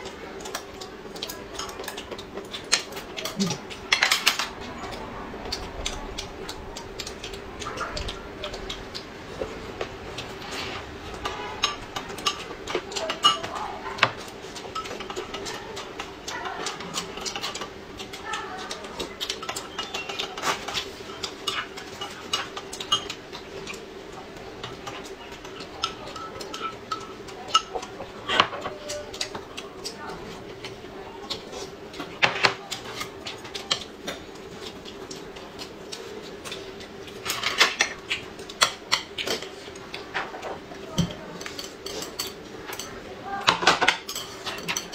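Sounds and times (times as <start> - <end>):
chewing and mouth noises: 0.0 - 42.6
utensils tapping bowls and plates: 0.0 - 44.9.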